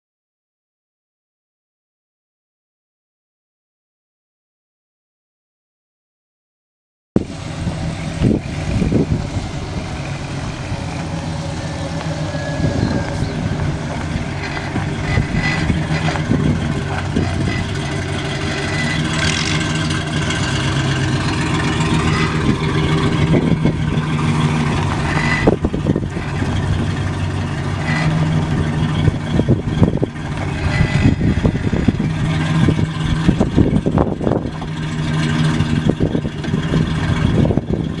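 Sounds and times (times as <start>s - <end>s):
pickup truck engine running: 7.2s - 38.0s.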